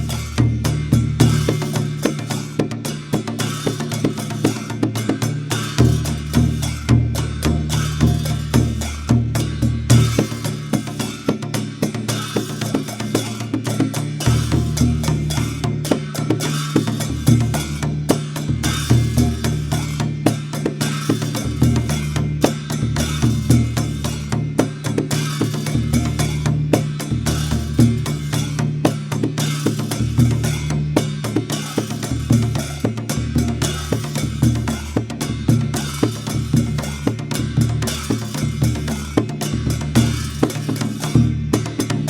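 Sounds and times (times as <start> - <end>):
barrel drum fast rhythm: 0.0 - 42.0.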